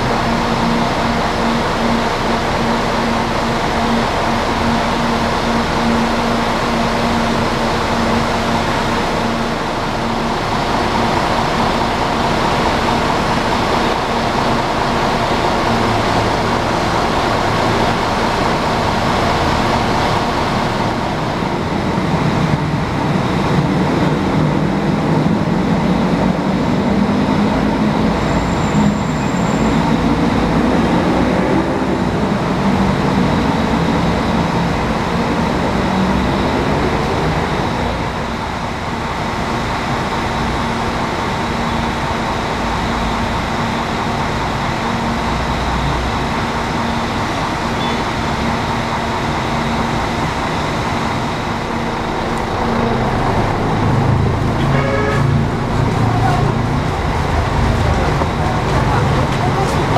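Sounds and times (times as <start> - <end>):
coach engine idling: 0.0 - 59.9.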